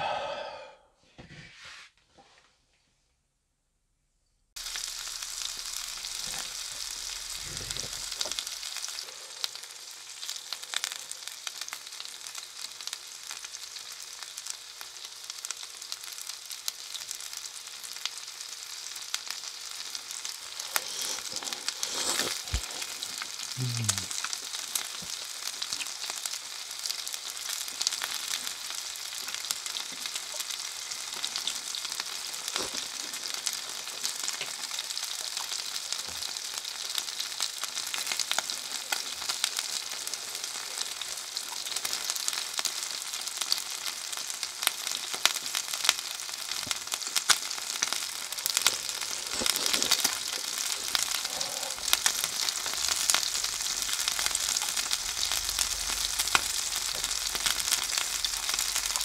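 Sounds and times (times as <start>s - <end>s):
skewers sizzling and popping: 4.6s - 59.0s.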